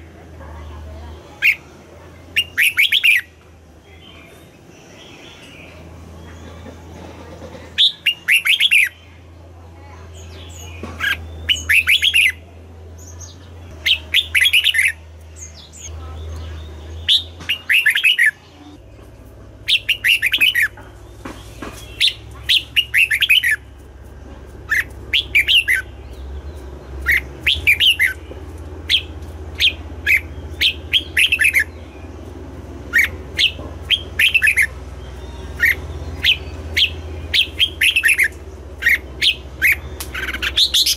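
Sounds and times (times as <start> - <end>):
bulbul singing: 0.0 - 40.9.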